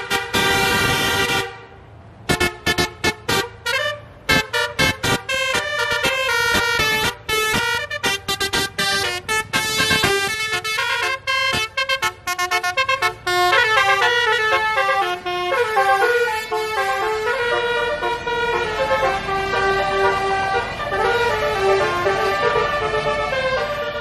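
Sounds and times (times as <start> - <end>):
multi-tone horn playing melody: 0.0 - 24.0.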